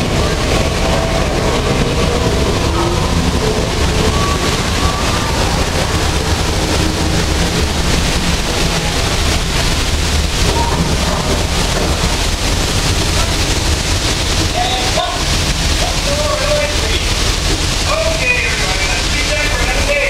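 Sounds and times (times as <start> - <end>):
water rushing and splashing: 0.0 - 20.0.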